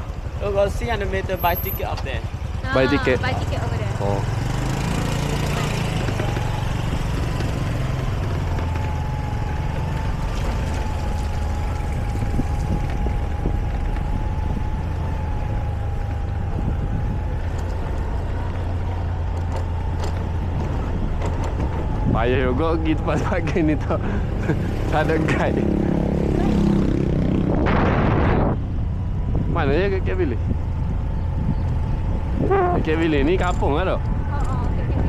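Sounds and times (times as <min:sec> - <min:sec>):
motorbike engine running: 0:00.0 - 0:35.0.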